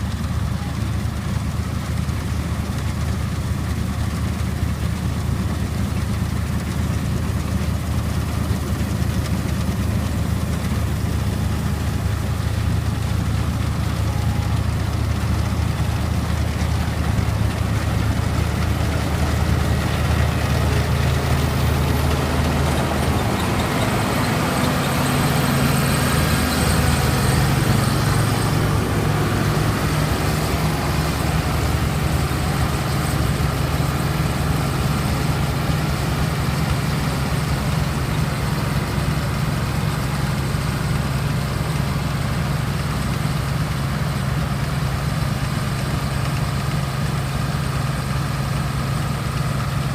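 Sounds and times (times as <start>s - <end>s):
two-cylinder tractor engine running: 0.0s - 49.9s.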